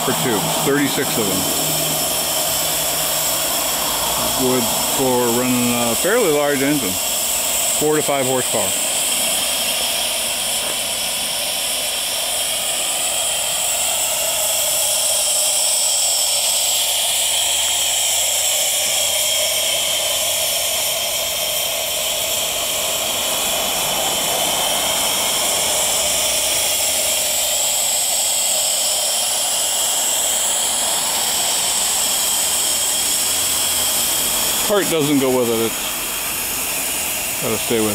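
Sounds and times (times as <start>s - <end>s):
loud steam hiss from boiler: 0.0s - 37.9s.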